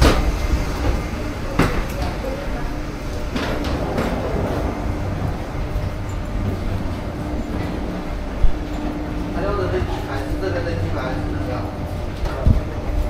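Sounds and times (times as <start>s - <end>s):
footsteps: 0.0s - 10.5s
rolling luggage: 0.0s - 13.0s
steady rumbling hum: 0.0s - 13.0s.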